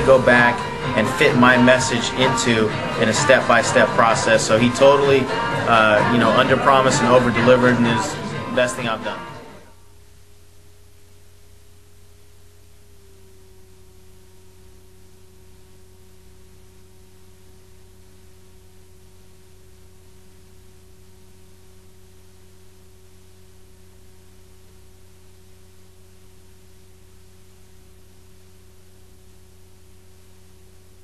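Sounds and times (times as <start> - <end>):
electrical hum and hiss: 0.0 - 31.0
steady electronic tone: 0.0 - 31.0.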